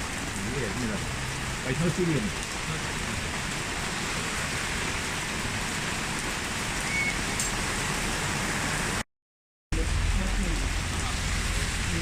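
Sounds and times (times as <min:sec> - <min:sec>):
steady rain: 0:00.0 - 0:09.0, 0:09.7 - 0:12.0.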